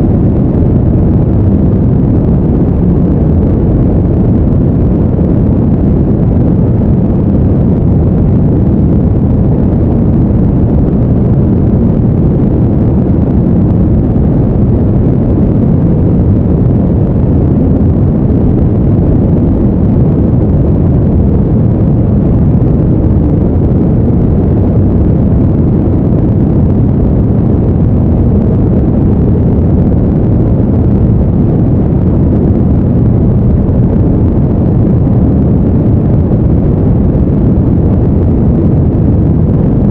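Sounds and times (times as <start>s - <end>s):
steady deep rumbling noise: 0.0s - 39.9s.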